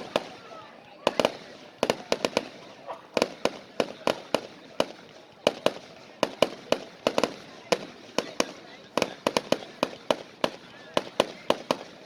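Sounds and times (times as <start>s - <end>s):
fireworks cracking with echo: 0.0s - 12.0s.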